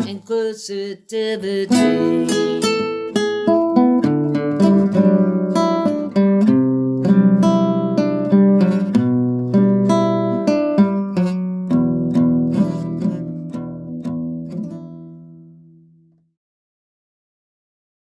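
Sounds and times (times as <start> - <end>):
acoustic guitar strumming: 0.0 - 0.5, 1.4 - 16.1.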